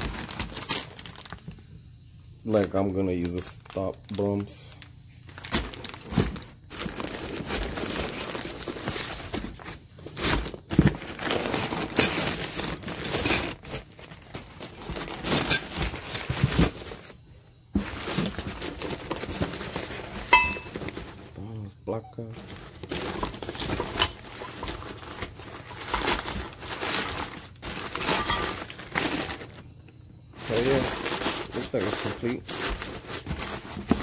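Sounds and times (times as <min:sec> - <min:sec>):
packing paper rustling: 0:00.0 - 0:01.6, 0:02.5 - 0:21.6, 0:22.2 - 0:34.0
plastic bags of hardware rustling: 0:00.0 - 0:01.6, 0:02.4 - 0:21.6, 0:22.2 - 0:34.0.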